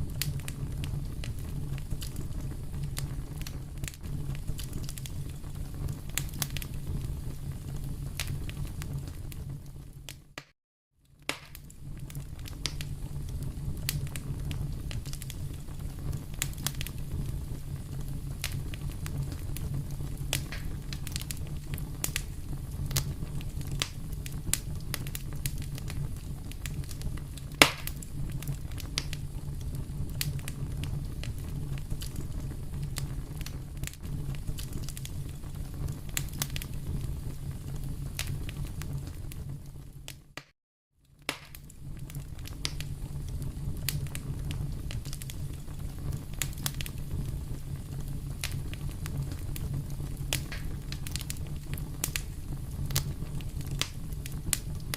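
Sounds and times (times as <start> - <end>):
low rumble of flames: 0.0 - 10.4, 11.0 - 40.4, 41.0 - 54.9
wood fire crackling and popping: 0.0 - 54.9.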